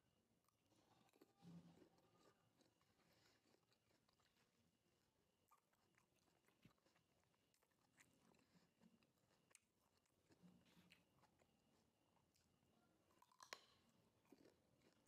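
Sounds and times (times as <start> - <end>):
faint chewing: 0.3 - 15.0.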